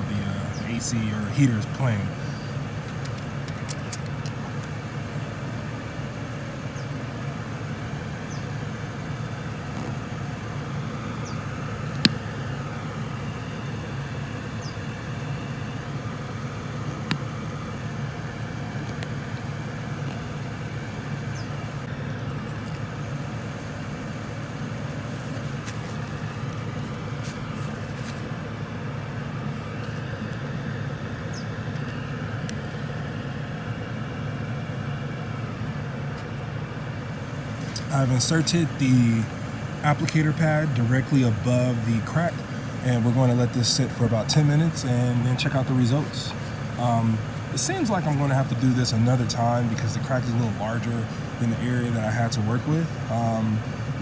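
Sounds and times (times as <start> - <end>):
car engine idling: 0.0 - 54.0
car heater running: 0.0 - 54.0.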